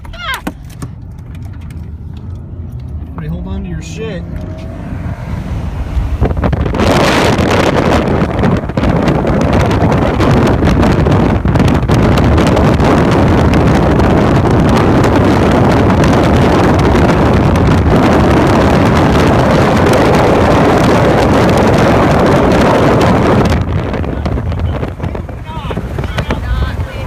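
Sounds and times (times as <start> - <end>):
wind: 0.0 - 27.0.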